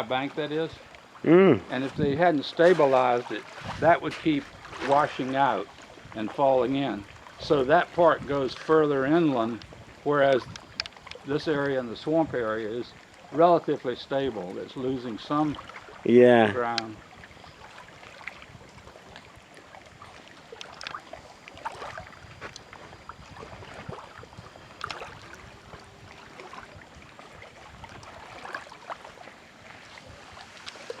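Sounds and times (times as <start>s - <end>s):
small waves lapping at shore: 0.0s - 31.0s.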